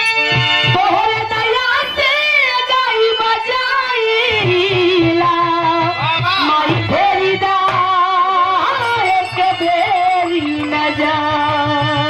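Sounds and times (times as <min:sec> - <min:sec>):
woman singing folk song: 0:00.7 - 0:12.0.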